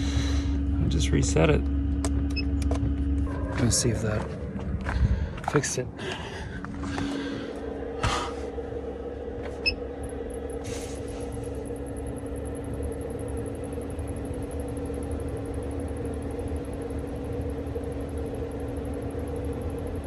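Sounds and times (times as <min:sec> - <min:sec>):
vent fan humming: 0:00.0 - 0:20.0.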